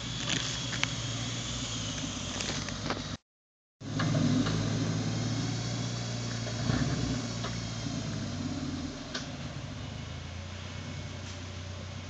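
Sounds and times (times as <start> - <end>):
engine running at low revs: 0.0 - 3.2, 3.8 - 12.0.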